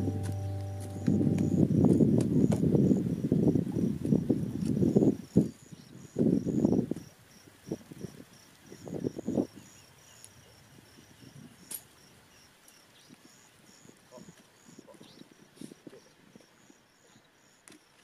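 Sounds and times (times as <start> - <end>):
insect chirping: 0.0 - 18.0.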